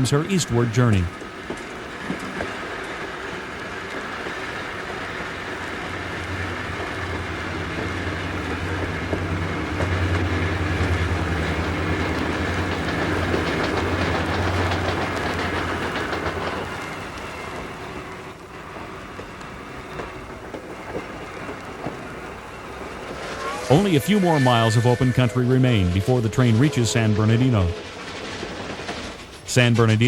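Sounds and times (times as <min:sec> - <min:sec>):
steam train clickety-clack: 0:00.0 - 0:23.5, 0:26.1 - 0:30.0.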